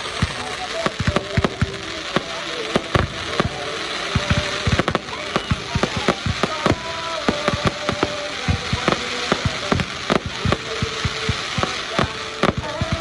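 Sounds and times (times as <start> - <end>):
fireworks bangs and cracks: 0.0 - 13.0
steady hiss: 0.0 - 13.0.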